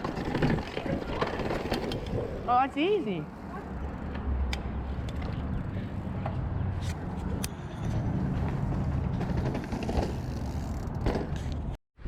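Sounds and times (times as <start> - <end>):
bike clicks and rattles: 0.0 - 2.6, 3.5 - 11.8
bike tyres rolling: 0.0 - 6.4, 7.1 - 11.6.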